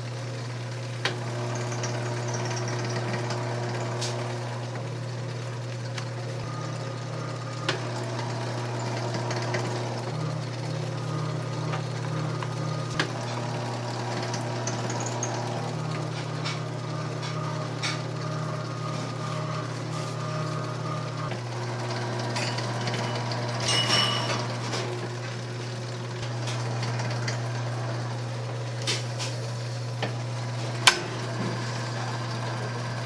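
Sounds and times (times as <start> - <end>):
pasta machine motor hum: 0.0 - 33.0.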